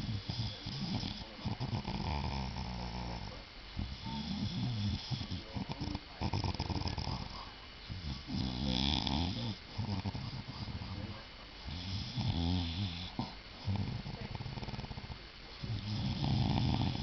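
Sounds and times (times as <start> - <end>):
loud snoring: 0.0 - 10.9, 11.7 - 17.0.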